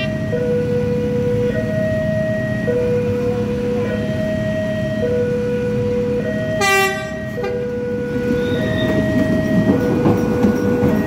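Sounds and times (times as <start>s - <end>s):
level-crossing two-tone alarm: 0.0s - 11.0s.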